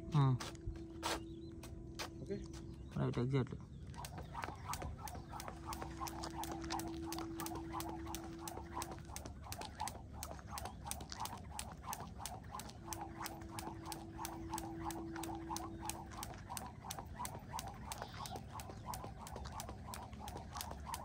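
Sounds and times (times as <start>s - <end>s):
skipping ropes slapping the ground: 3.9s - 21.0s.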